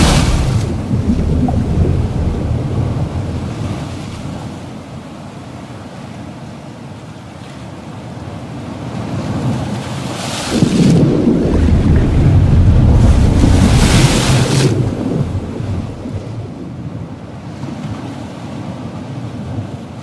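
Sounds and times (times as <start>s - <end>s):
ocean waves: 0.0s - 20.0s.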